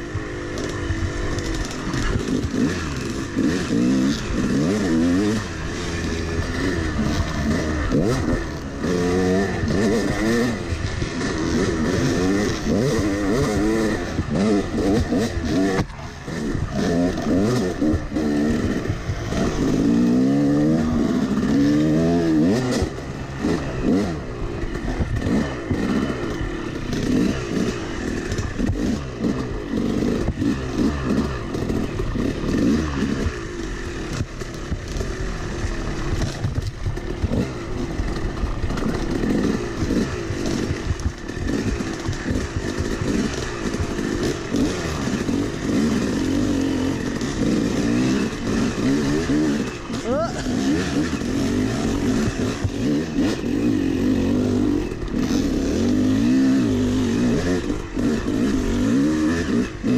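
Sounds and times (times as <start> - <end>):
bike rattling over bumps: 0.0 - 59.9
dirt bike engine revving: 0.0 - 59.9.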